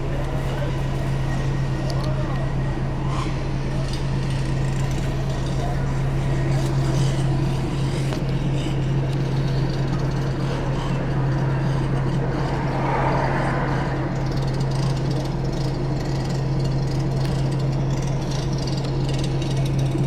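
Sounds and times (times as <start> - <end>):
diesel engine idling: 0.0 - 17.8.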